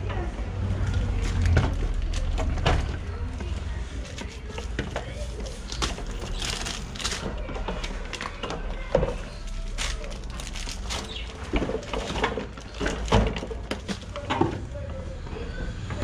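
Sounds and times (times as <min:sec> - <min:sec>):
rustling: 0:00.6 - 0:14.7.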